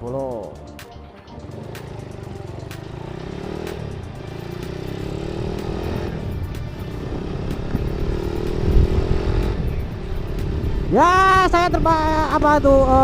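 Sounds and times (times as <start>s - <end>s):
motorcycle engine accelerating: 1.2s - 13.0s.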